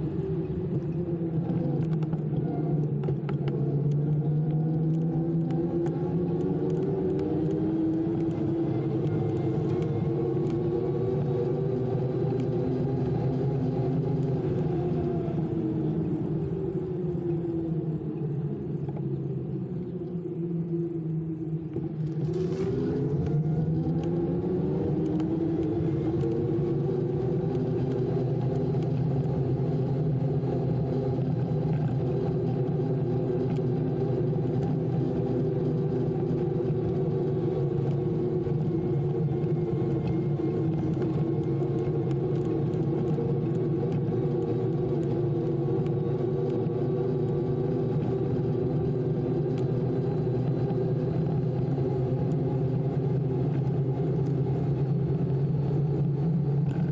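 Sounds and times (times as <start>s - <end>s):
electric bike motor humming: 0.0s - 56.9s.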